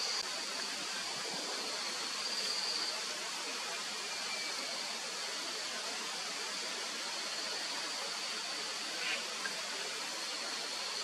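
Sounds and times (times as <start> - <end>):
forest ambience hiss: 0.0 - 11.0
high-pitched insect drone: 1.2 - 11.0.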